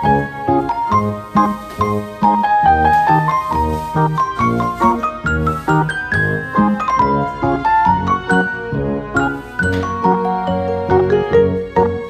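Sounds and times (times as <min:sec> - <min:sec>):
quick melody over bass line: 0:00.0 - 0:12.0.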